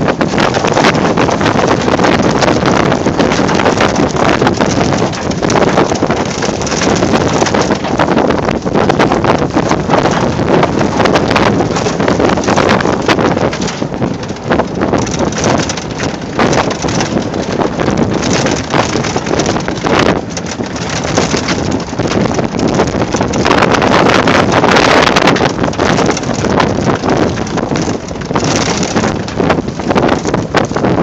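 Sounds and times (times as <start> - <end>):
knocks and rattles: 0.0 - 31.0
wind buffeting microphone: 0.0 - 31.0.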